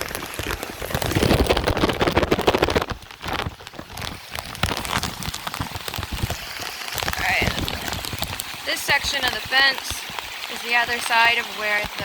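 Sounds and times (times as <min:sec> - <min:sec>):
rain drops crackling: 0:00.0 - 0:12.0.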